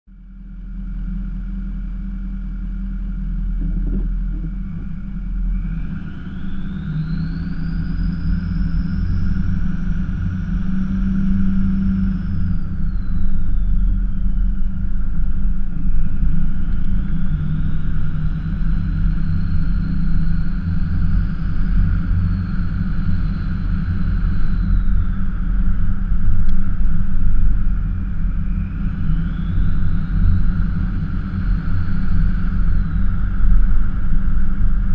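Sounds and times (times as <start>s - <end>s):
engine and road rumble: 0.1s - 34.9s
high whine: 0.1s - 34.9s.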